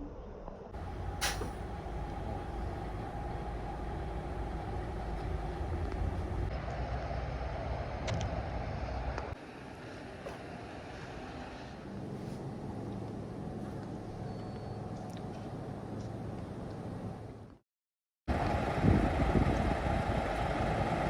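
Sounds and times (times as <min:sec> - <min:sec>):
truck engine and road rumble: 0:00.6 - 0:17.6, 0:18.3 - 0:21.0.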